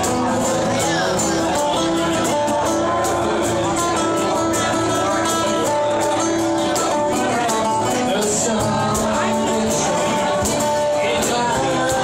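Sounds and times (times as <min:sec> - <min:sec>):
acoustic guitar strummed: 0:00.0 - 0:12.0
drums: 0:00.0 - 0:12.0.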